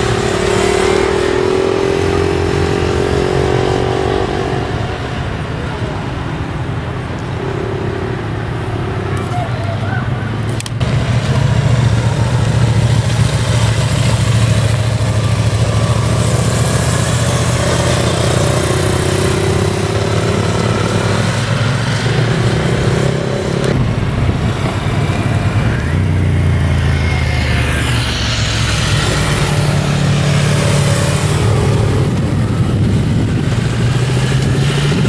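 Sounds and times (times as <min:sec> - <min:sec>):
motorcycle engine running: 0:06.6 - 0:35.0.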